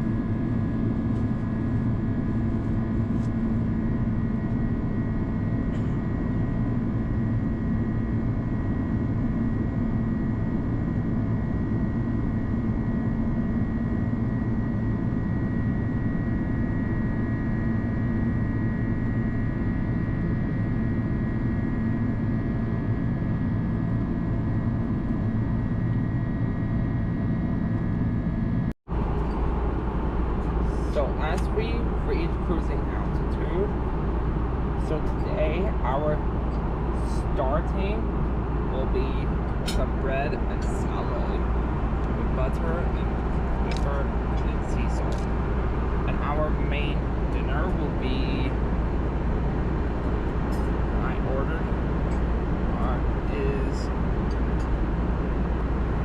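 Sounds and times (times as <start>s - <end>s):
jet cabin drone: 0.0s - 56.0s.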